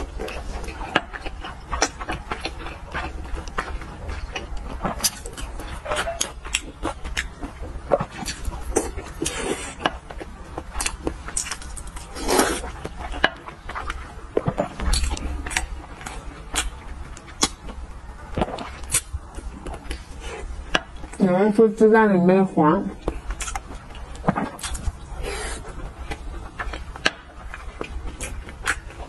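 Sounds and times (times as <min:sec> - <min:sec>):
wet chewing and lip smacks: 0:00.0 - 0:21.2, 0:23.0 - 0:29.0.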